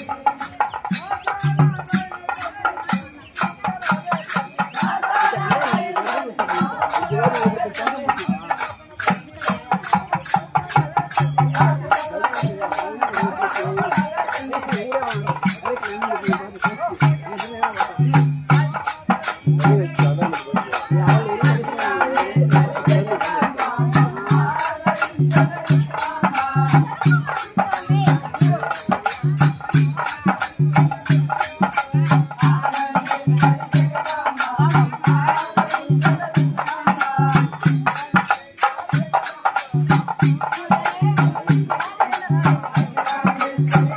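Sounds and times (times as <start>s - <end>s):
drum beating paired strokes: 0.0s - 43.9s
voices singing: 0.0s - 43.9s.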